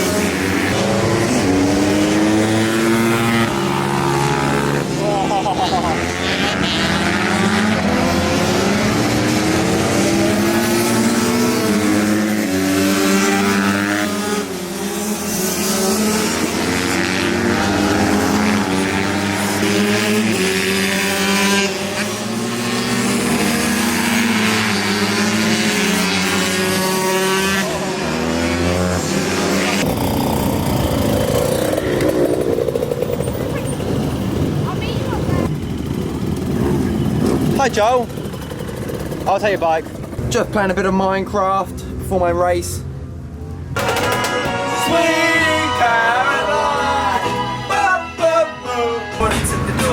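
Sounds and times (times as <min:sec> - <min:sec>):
small engines revving: 0:00.0 - 0:41.0.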